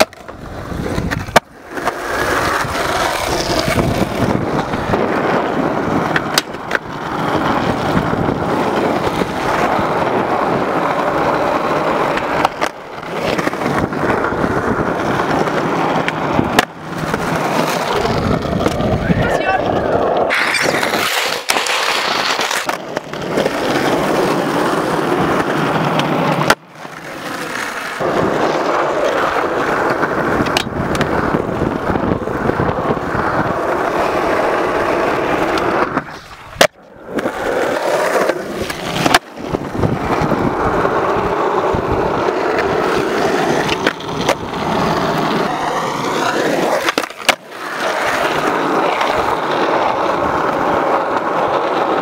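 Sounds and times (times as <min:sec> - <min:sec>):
skateboard clacks: 0:00.0 - 0:52.0
skateboard wheels rolling on asphalt: 0:00.0 - 0:52.0.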